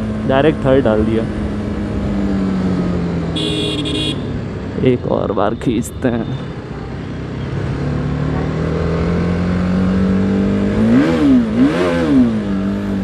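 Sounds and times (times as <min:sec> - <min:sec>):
motorcycle engine revving: 0:00.0 - 0:04.8, 0:06.7 - 0:13.0.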